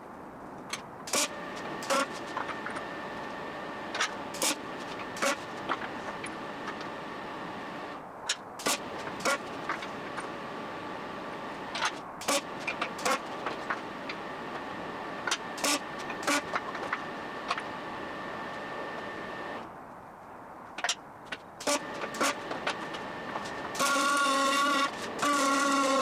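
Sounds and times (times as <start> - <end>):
steady hum: 1.1 - 19.8, 21.6 - 26.0.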